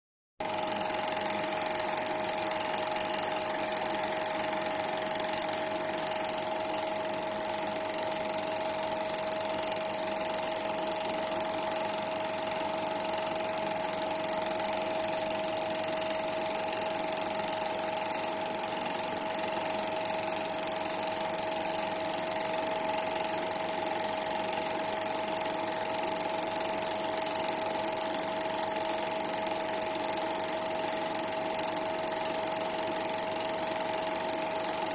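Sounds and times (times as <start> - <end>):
film projector whirring: 0.4 - 34.9.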